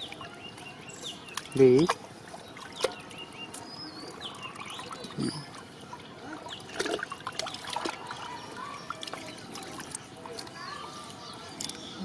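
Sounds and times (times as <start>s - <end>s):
small birds chirping: 0.0s - 6.7s, 7.5s - 12.0s.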